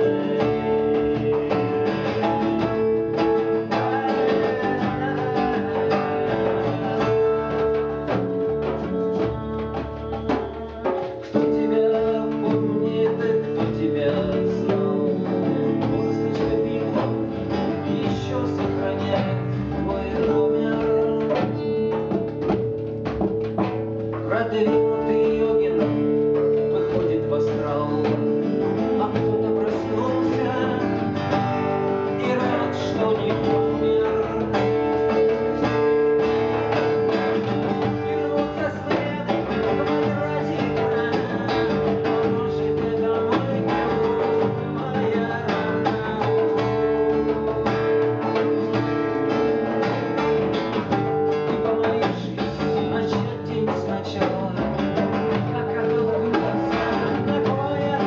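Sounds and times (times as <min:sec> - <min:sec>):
acoustic guitar: 0:00.0 - 0:58.0.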